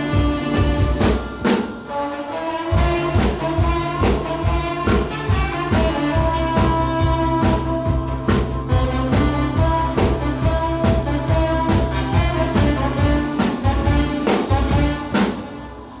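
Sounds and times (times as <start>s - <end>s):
bass accompaniment: 0.0s - 1.8s, 2.8s - 15.6s
drum kit beat: 0.0s - 1.9s, 2.7s - 15.6s
saxophone melody: 0.0s - 16.0s.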